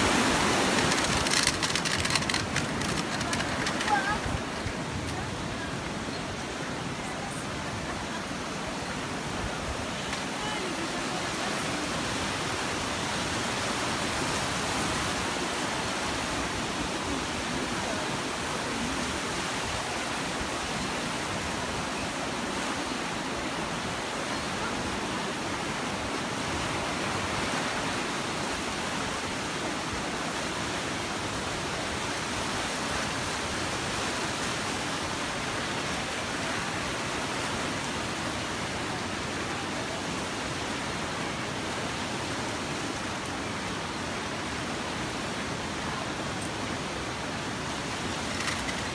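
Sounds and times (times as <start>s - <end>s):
river rushing white water: 0.0s - 48.9s.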